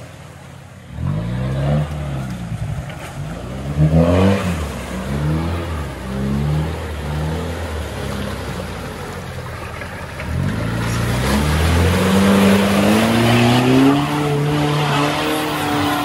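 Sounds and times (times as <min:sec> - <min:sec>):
tyres churning mud and water: 0:00.0 - 0:16.0
diesel engine revving: 0:00.9 - 0:16.0.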